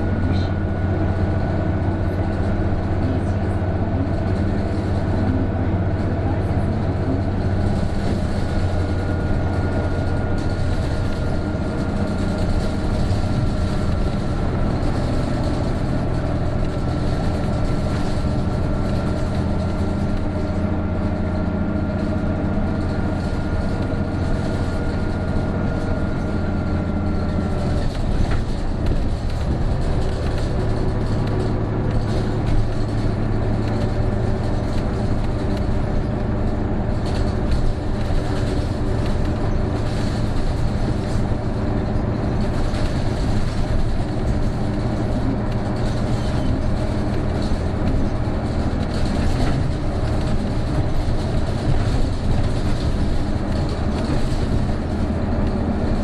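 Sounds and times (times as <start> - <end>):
bus engine running under load: 0.0 - 56.0.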